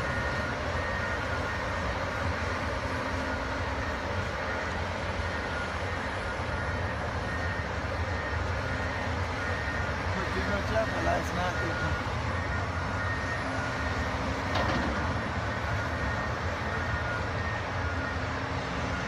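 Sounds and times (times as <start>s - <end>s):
bulldozer diesel engines droning: 0.0s - 19.0s.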